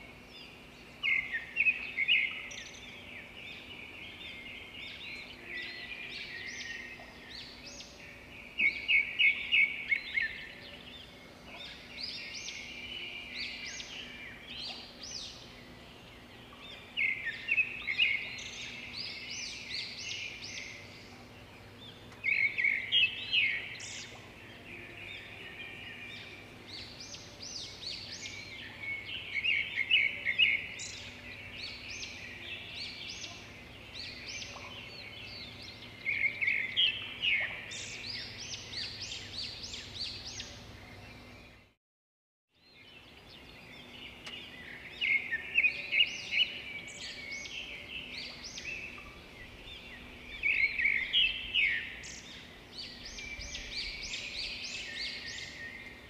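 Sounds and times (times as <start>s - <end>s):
small birds chirping: 0.0s - 41.8s, 42.6s - 56.0s.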